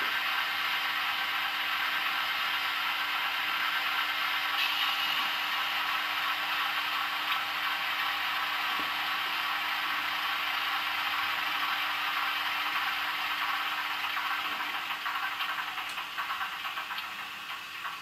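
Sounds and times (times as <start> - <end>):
diesel locomotive engine from small speaker: 0.0 - 18.0.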